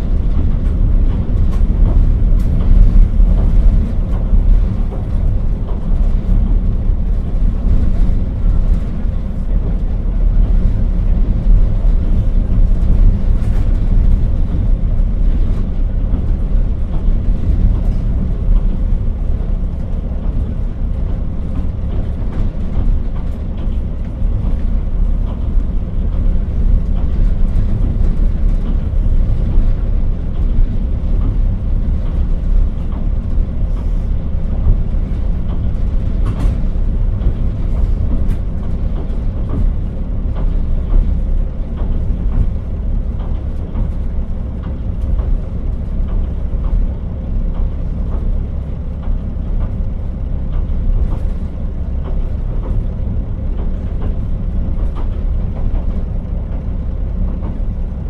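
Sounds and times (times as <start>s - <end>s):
diesel engine rumble: 0.0s - 58.0s
train wheels on rails: 0.0s - 58.0s.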